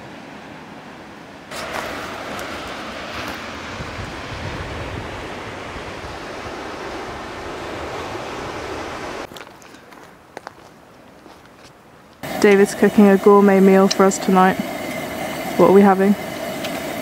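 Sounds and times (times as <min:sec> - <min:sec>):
sea surf on rocky shore: 0:00.0 - 0:09.4, 0:12.2 - 0:17.0.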